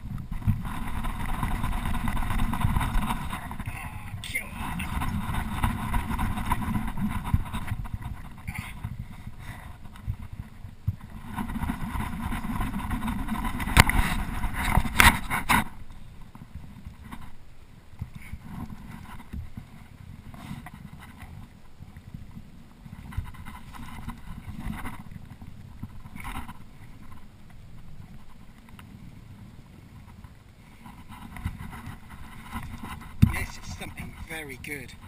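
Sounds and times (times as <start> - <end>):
wind buffeting microphone: 0.0 - 28.4, 29.0 - 35.0.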